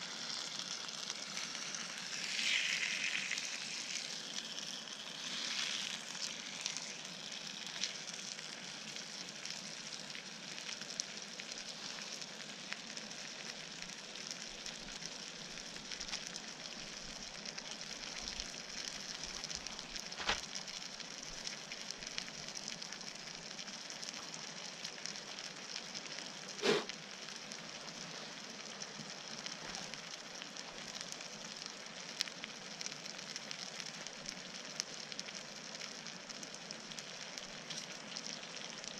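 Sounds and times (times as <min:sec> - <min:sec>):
pork sizzling in a frying pan: 0:00.0 - 0:38.9.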